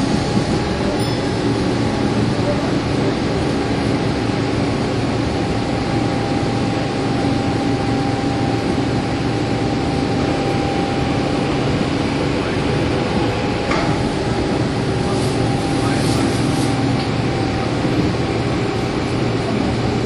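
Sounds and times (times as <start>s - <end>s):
motor hum and whine: 0.0s - 20.0s
train wheels rumbling: 0.0s - 20.0s.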